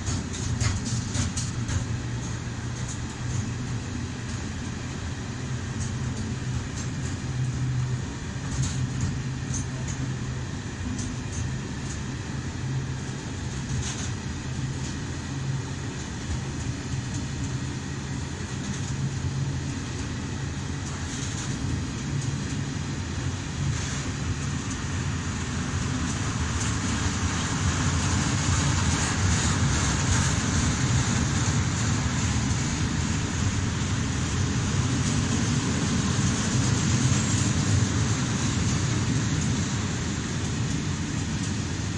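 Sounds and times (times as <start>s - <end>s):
freight train wheels on rails: 0.0s - 41.9s.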